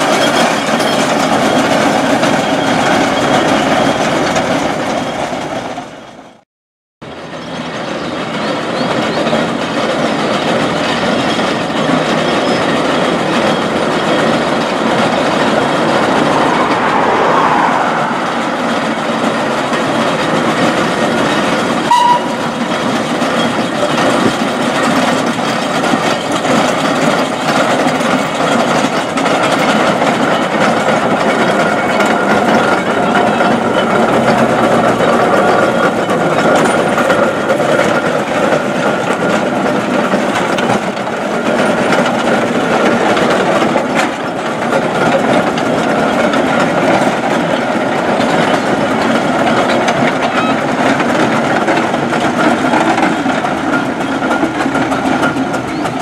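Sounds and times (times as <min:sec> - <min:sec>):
steam roller rumble and clatter: 0:00.0 - 0:06.4, 0:07.0 - 0:56.0.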